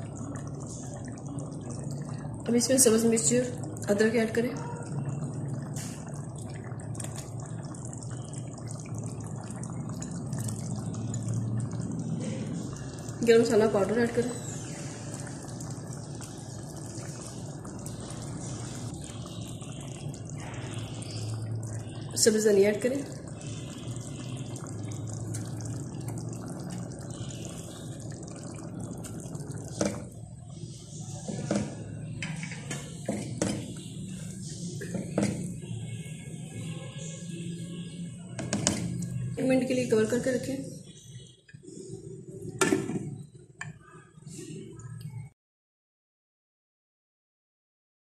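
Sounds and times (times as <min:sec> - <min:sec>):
curry bubbling with pops: 0:00.0 - 0:45.3.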